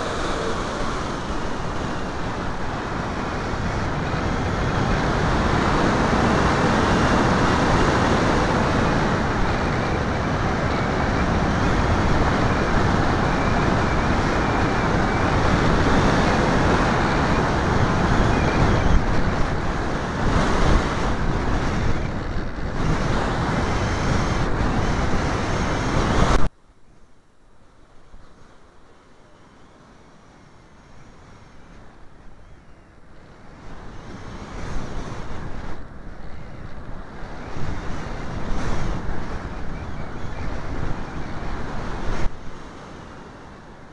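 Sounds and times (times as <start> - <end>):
wind and motor roar: 0.0 - 26.5, 28.1 - 43.9.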